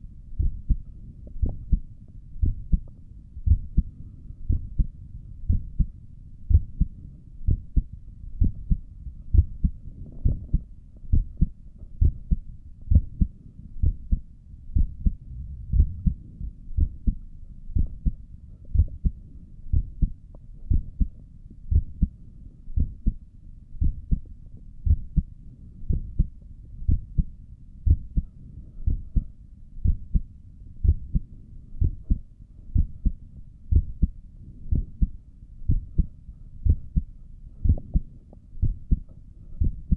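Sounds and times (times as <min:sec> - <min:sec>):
heartbeat through stethoscope: 0:00.3 - 0:39.9.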